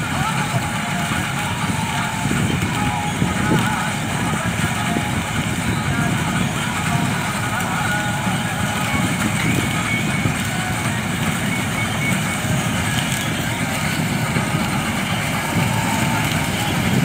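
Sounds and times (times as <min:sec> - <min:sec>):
combine harvester engine and machinery: 0:00.0 - 0:17.0.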